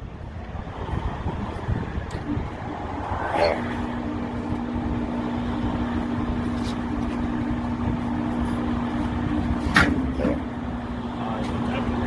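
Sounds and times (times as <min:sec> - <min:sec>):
log splitter motor humming: 0:02.1 - 0:12.0.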